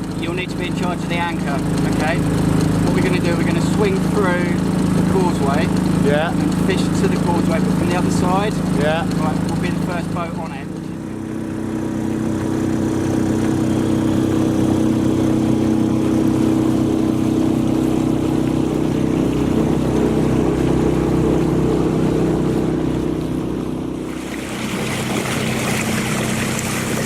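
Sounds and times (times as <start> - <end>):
outboard motor drone: 0.0 - 27.0
rush of wind and water: 0.0 - 27.0.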